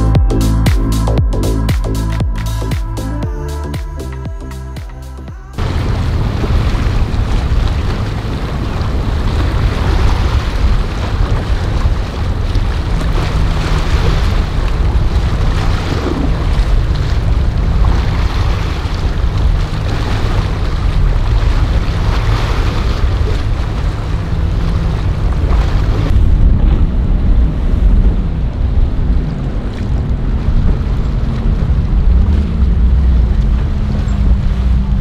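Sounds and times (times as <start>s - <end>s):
boat engines humming: 0.0s - 35.0s
rush of bow wake: 0.0s - 35.0s
wind buffeting microphone: 5.6s - 35.0s.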